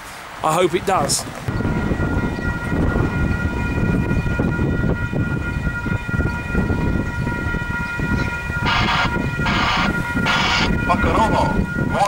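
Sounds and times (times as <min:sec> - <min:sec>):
wind buffeting microphone: 0:00.0 - 0:12.0
high whine of held tones: 0:01.5 - 0:12.0.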